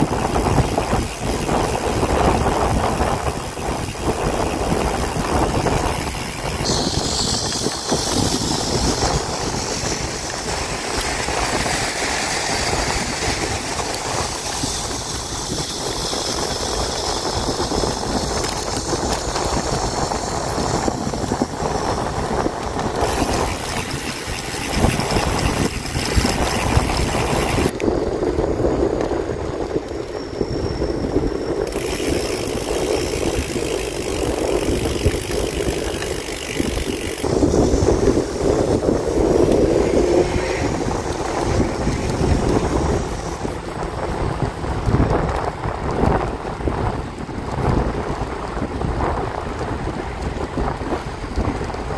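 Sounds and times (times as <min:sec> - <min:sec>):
bicycle tyres rolling on path: 0:00.0 - 0:51.9
wind on microphone: 0:00.0 - 0:51.9.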